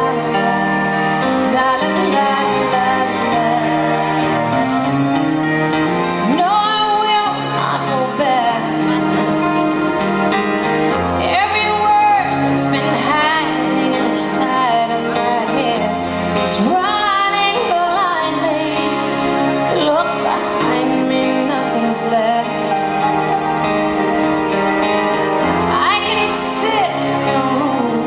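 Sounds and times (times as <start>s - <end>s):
woman singing a ballad: 0.0s - 4.7s, 6.2s - 10.0s, 11.2s - 23.8s, 25.7s - 28.0s
acoustic guitar chords: 0.0s - 28.0s.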